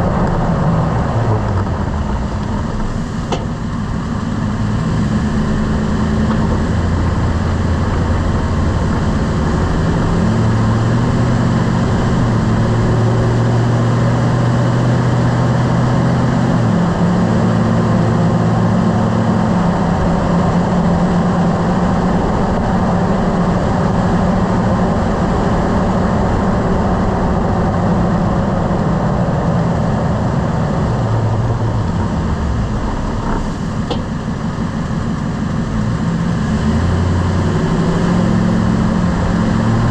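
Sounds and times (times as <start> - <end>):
pickup truck engine and road noise: 0.0 - 39.9.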